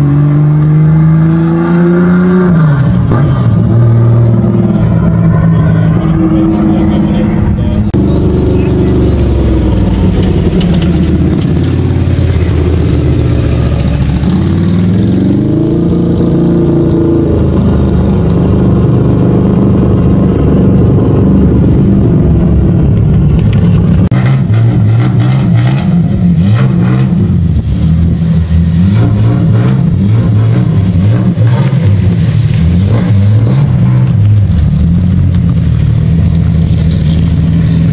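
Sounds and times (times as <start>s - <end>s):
quad bike engines revving: 0.0s - 37.9s.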